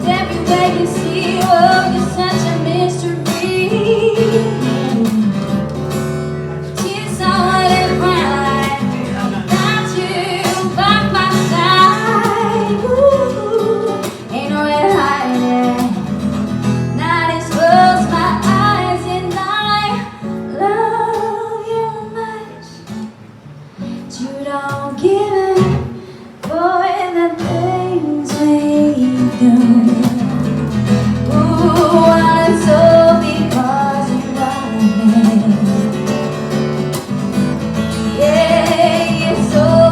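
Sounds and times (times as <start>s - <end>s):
woman singing: 0.0s - 5.7s, 6.7s - 16.3s, 16.9s - 23.1s, 24.0s - 36.4s, 37.9s - 39.9s
acoustic guitar: 0.0s - 39.9s.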